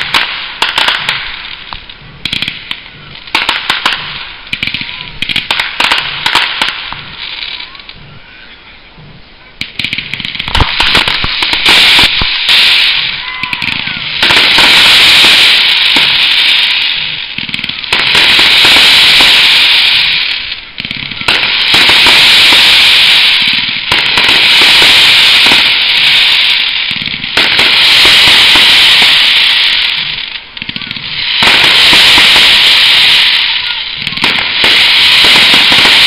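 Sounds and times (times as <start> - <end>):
fireworks crackling: 0.0 - 36.0.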